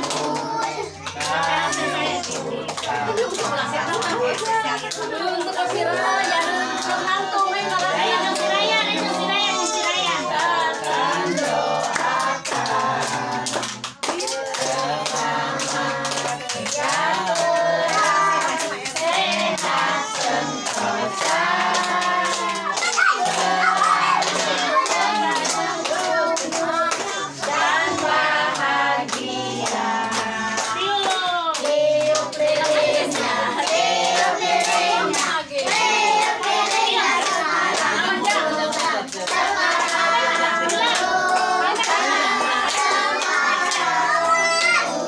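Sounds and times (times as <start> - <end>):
hands clapping: 0.0 - 9.0, 9.6 - 45.0
people singing a celebration song: 0.0 - 45.0.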